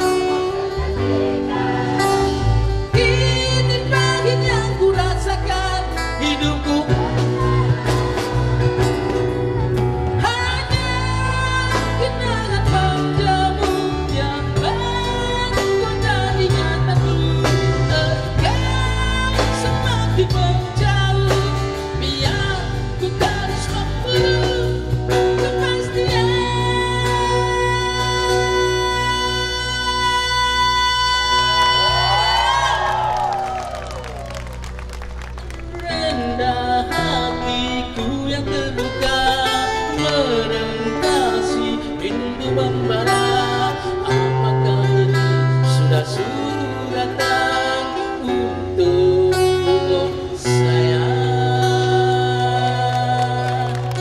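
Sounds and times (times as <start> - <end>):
man singing rock into microphone: 0.0 - 32.7, 35.6 - 54.0
amplified electric guitar: 0.0 - 54.0.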